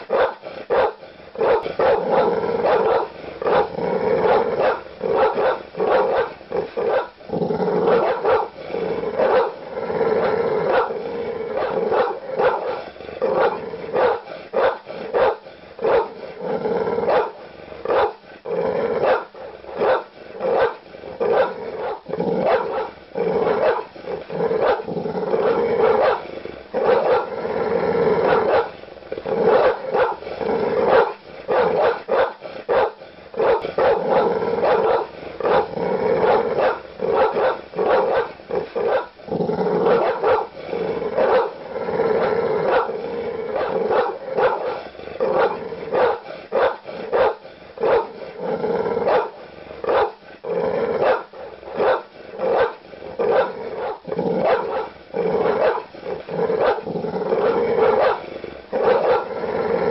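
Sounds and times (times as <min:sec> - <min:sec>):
large dog barking aggressively: 0:00.0 - 0:59.9.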